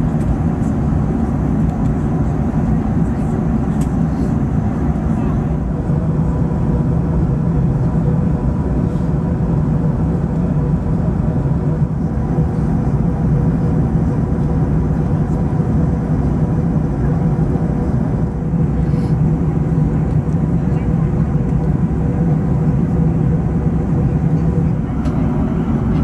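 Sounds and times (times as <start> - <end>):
low rumble of airflow and engines: 0.0 - 26.0.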